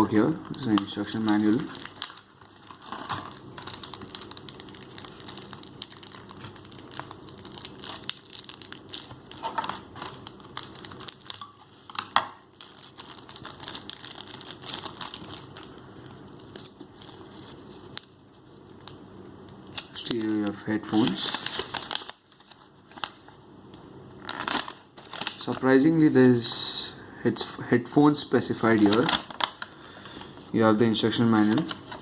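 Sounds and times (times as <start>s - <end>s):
packaging crinkling and rustling: 0.4s - 19.0s, 19.7s - 23.4s, 24.2s - 26.5s, 28.6s - 32.0s.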